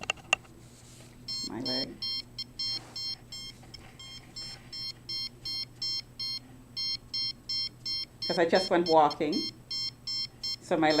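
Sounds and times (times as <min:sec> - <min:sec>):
electronic device beeping: 0:01.3 - 0:11.0.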